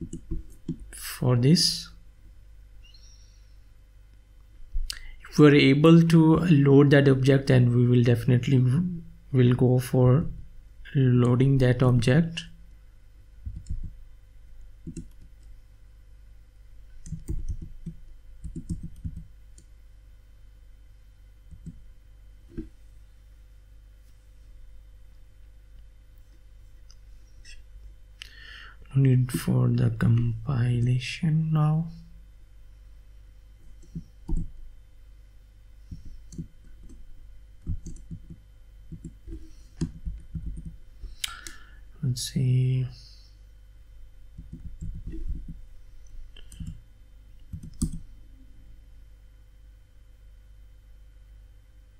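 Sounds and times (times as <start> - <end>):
faint low hum: 0.0 - 51.9.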